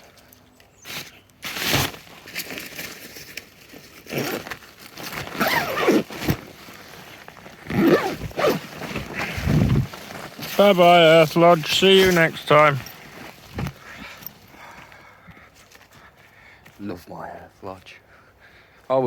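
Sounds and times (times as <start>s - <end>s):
sheeting crinkling and rustling: 0.0s - 15.9s.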